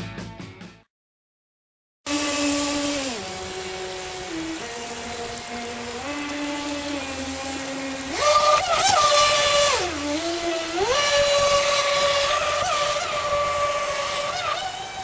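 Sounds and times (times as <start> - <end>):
electric motor whining: 2.1 - 15.0
water jet rushing hiss: 2.1 - 15.0.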